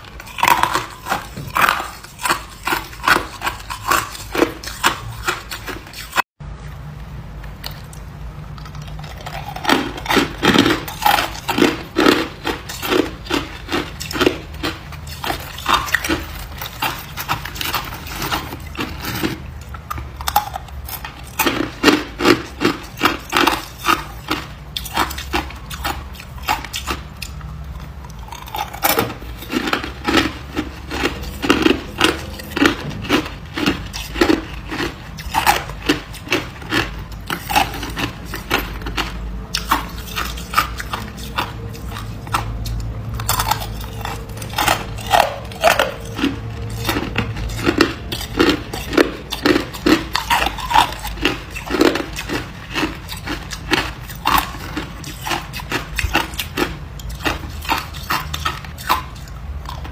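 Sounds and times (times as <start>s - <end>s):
person crunching ice: 0.0s - 6.2s, 9.1s - 27.3s, 28.1s - 59.9s
low steady hum: 0.0s - 59.9s.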